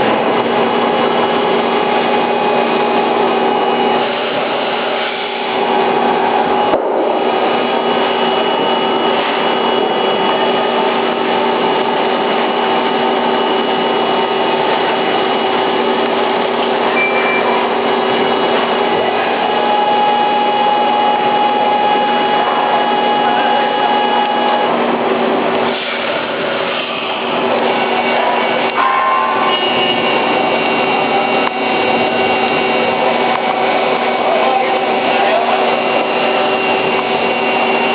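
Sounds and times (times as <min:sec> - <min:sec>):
lathe cutting and spindle whine: 0:00.0 - 0:37.9.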